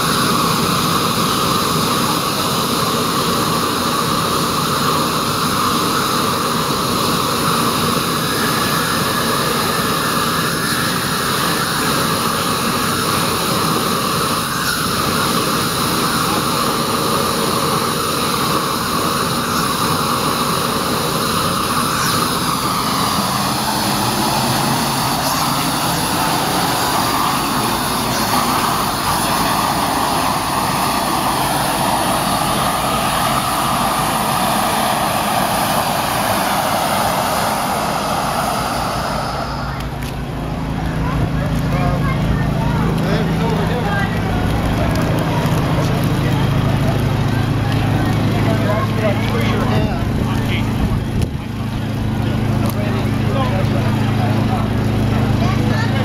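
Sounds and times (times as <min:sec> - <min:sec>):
gas burner flame rushing: 0:00.0 - 0:56.0.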